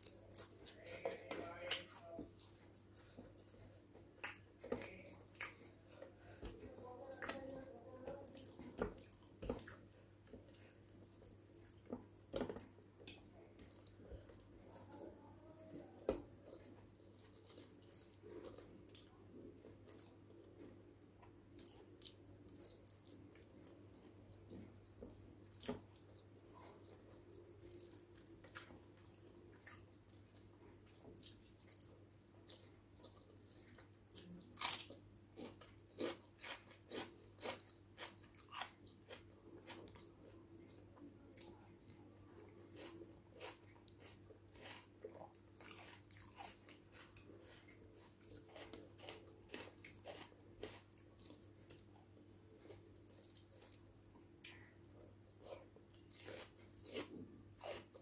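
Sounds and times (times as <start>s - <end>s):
faint low hum: 0.0s - 58.0s
soft wet chewing: 0.0s - 58.0s.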